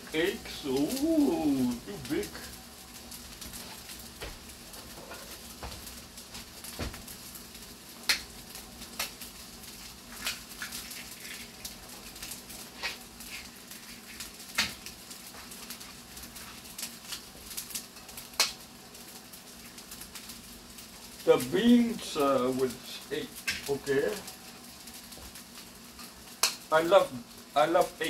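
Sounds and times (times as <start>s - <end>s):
faint sizzle from skillet: 0.0s - 28.0s.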